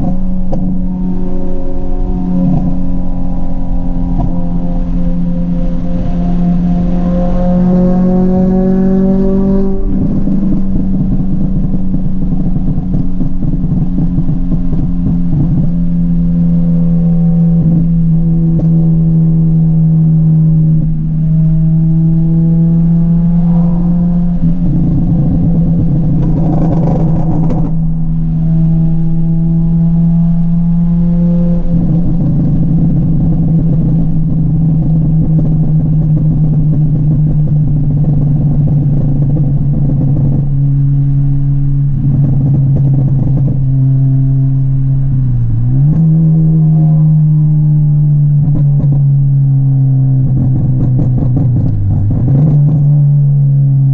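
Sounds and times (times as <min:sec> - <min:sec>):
car engine revving hard: 0:00.0 - 0:49.6, 0:50.2 - 0:53.4.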